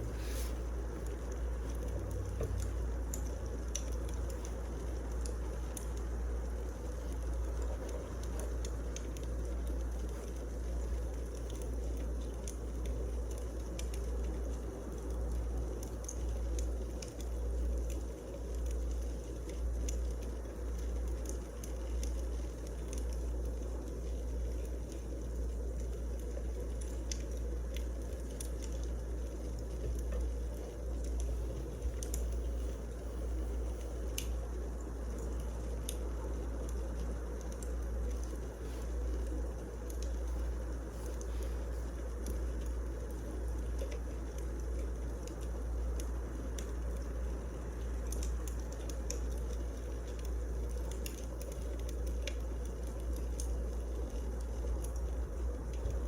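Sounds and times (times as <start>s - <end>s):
firewood crackling and popping: 0.0s - 56.0s.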